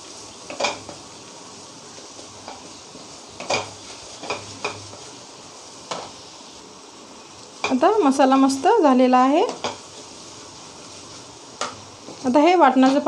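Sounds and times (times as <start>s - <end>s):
spice paste sizzling in oil: 0.0s - 13.0s.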